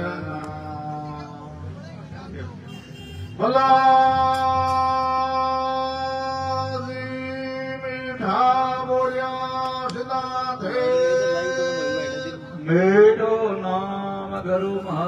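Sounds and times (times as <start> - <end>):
men chanting devotional singing: 0.0 - 2.7, 3.3 - 15.0.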